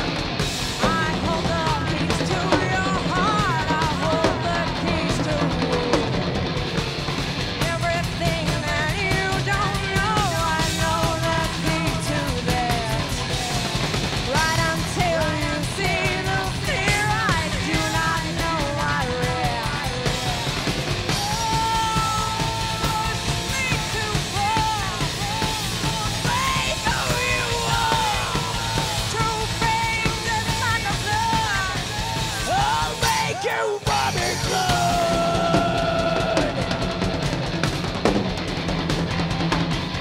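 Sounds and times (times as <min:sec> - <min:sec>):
bass guitar: 0:00.0 - 0:40.0
distorted electric guitars: 0:00.0 - 0:40.0
drums: 0:00.0 - 0:40.0
melodic lead guitar line: 0:00.0 - 0:40.0.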